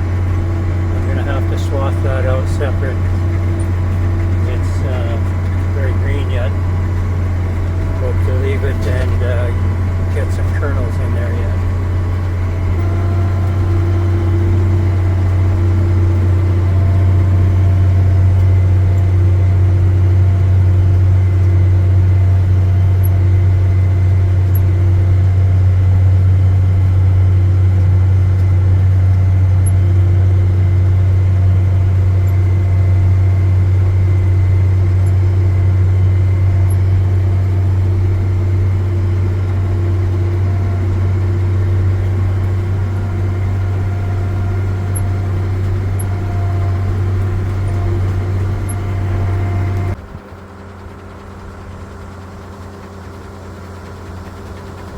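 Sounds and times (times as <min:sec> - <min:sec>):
engine droning: 0:00.0 - 0:54.9.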